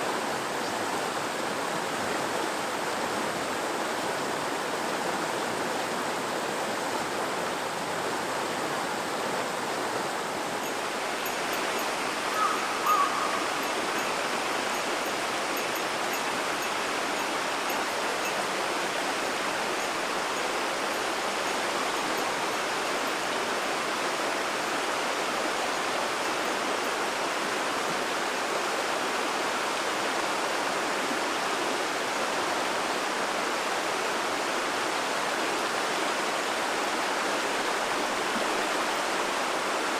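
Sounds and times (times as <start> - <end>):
mountain river rushing: 0.0 - 39.9.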